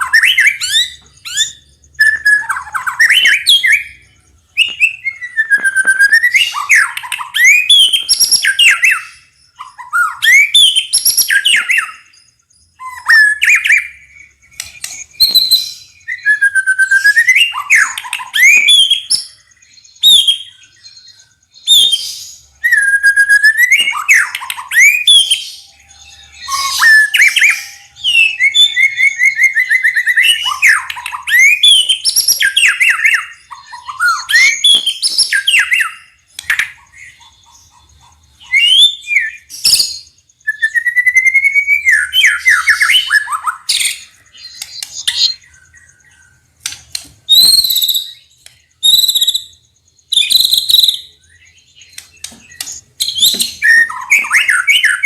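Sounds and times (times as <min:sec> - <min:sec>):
songbird whistled song: 0:00.0 - 0:55.0.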